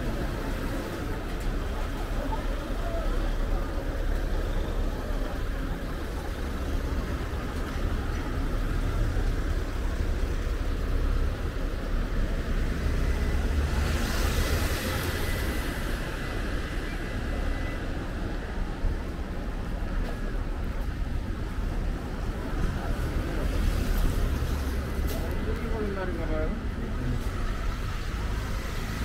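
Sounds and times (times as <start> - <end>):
road traffic rumbling: 0.0 - 29.0.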